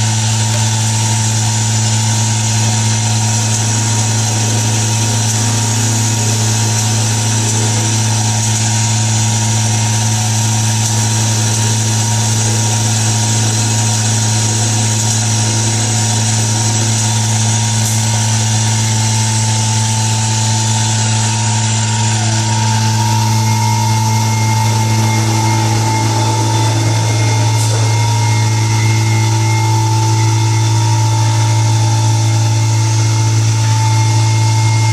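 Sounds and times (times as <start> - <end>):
cnc router humming and whining: 0.0 - 34.9.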